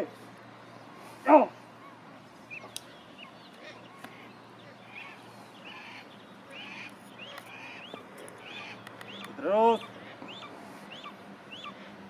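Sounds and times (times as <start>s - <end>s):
bird chirping: 1.7s - 11.9s.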